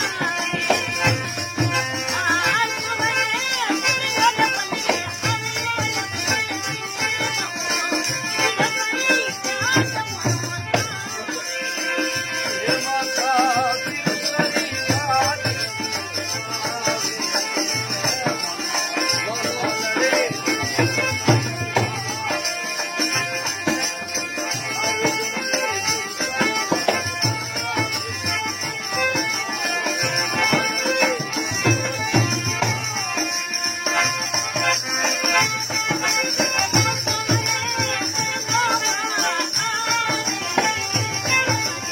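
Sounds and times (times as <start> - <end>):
folk music melody: 0.0 - 41.9.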